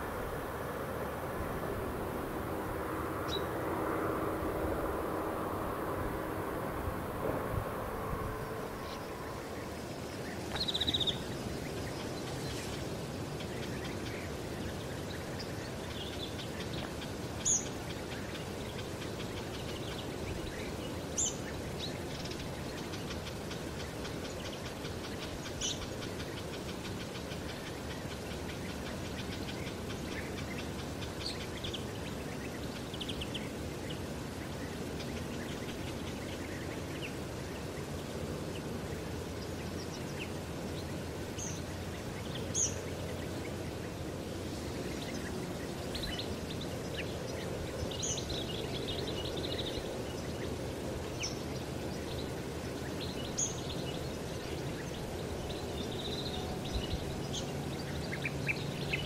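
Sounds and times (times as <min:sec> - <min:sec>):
low background rumble: 0:00.0 - 0:59.0
small birds chirping: 0:08.1 - 0:59.0.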